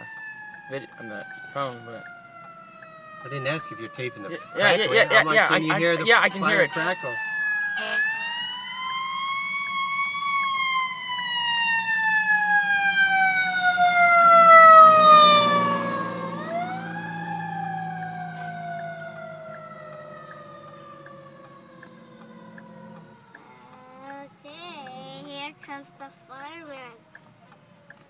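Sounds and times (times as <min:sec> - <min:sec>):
fire engine siren wailing: 0:00.0 - 0:28.0.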